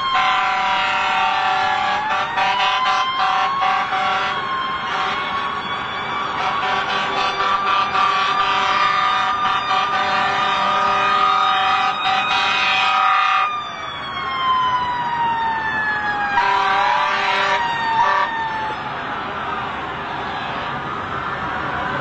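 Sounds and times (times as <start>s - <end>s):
emergency vehicle siren: 0.0s - 22.0s.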